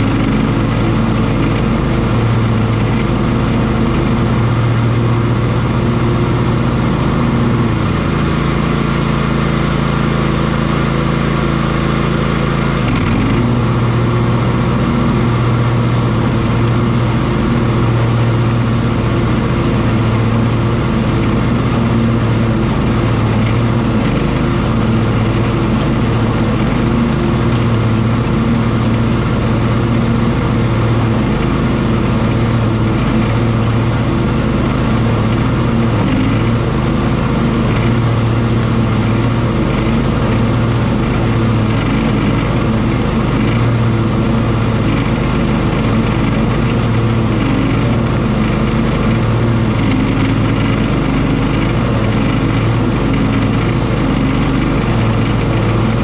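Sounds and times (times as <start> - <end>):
riding lawn mower mowing: 0.0 - 56.0.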